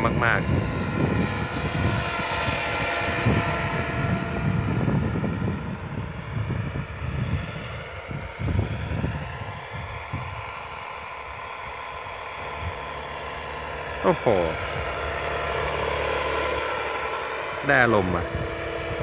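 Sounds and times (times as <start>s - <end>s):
model helicopter whine: 0.0s - 19.0s.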